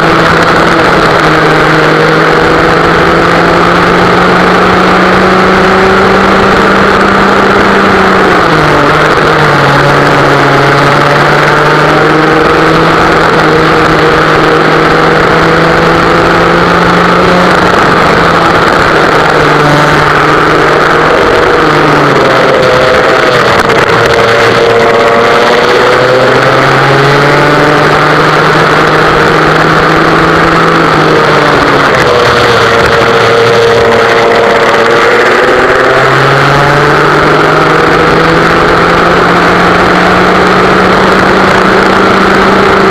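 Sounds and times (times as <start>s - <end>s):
kart engine running hard: 0.0s - 42.9s.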